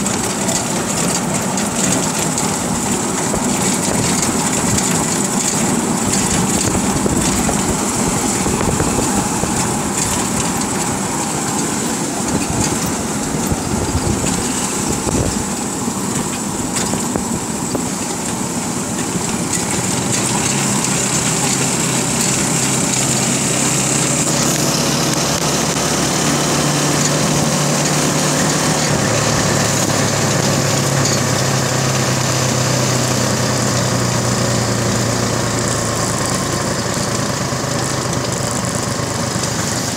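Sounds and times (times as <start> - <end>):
motorcycle engines cruising: 0.0 - 39.9
road noise: 0.0 - 39.9.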